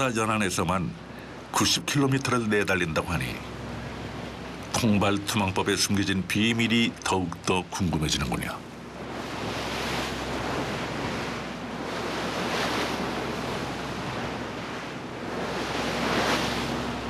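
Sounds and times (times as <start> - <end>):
boat engine drone: 0.0 - 17.0
water splashing along boat hull: 1.0 - 17.0.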